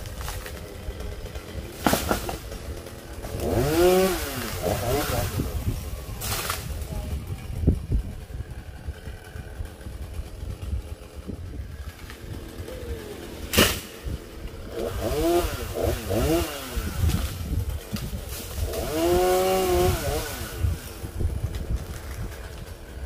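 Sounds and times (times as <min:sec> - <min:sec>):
chainsaw engine revving: 0:00.0 - 0:23.0.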